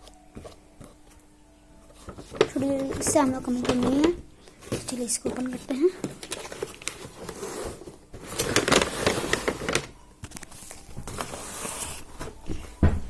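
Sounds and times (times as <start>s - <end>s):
cardboard rustling and scraping: 1.9s - 13.0s.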